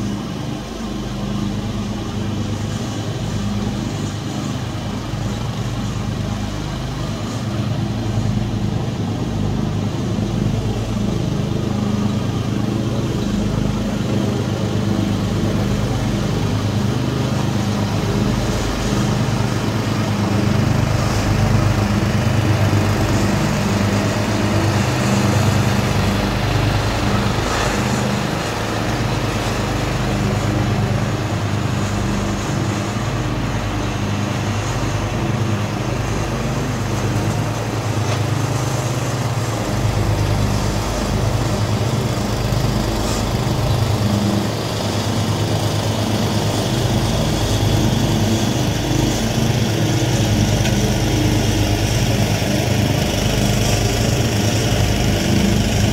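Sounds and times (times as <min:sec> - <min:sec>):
small mower engines running: 0:00.0 - 0:55.9.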